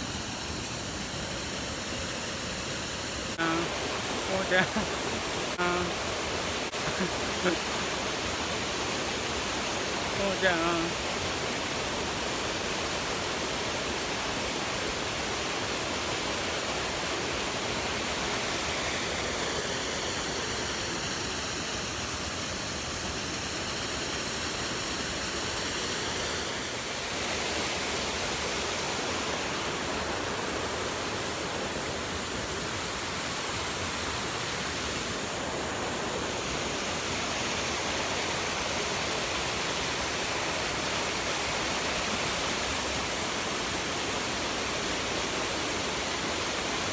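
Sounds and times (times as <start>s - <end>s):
waterfall roaring: 0.0s - 46.9s.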